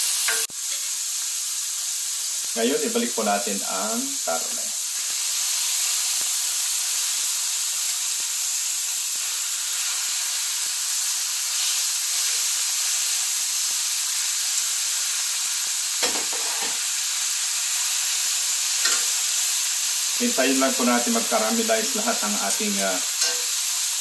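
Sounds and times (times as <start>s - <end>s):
meat and vegetables sizzling in pan: 0.0s - 24.0s.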